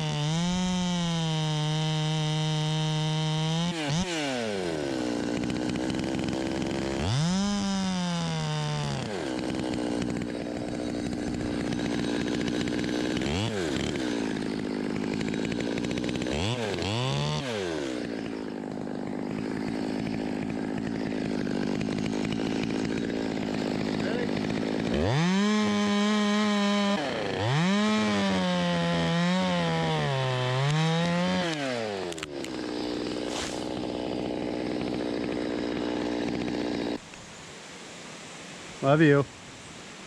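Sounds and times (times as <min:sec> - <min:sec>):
chainsaw revving and idling: 0:00.0 - 0:37.1.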